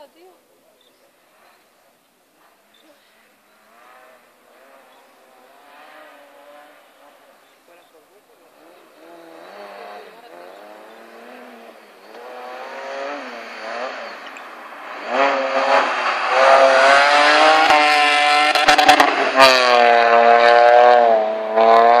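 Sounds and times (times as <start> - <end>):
car engine revving hard: 3.4 - 7.4, 8.4 - 22.0.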